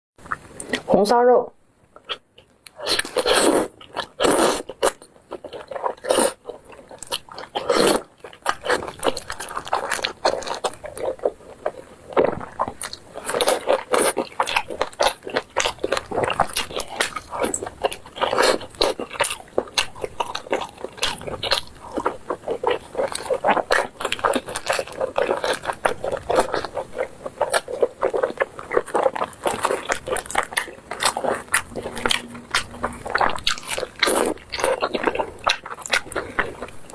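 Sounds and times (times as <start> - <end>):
person biting and chewing: 2.0 - 36.9.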